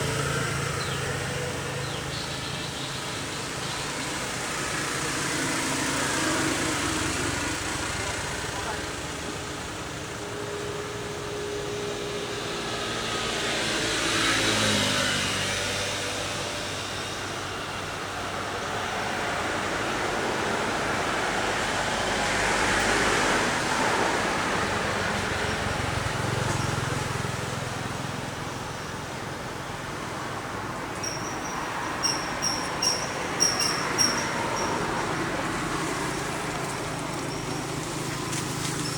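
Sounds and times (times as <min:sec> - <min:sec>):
vehicles passing by: 0:00.0 - 0:38.9.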